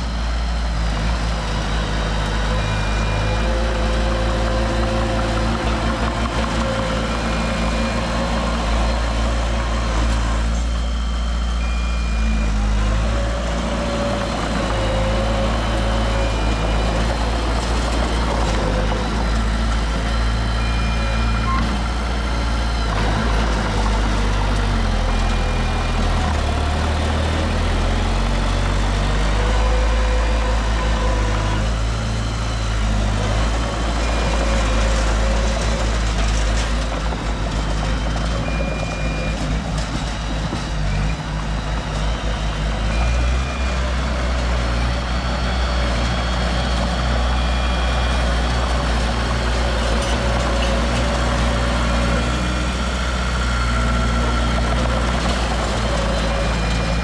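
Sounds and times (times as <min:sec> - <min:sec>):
diesel machinery engine drone: 0:00.0 - 0:57.0
reversing alarm beeps: 0:01.2 - 0:57.0.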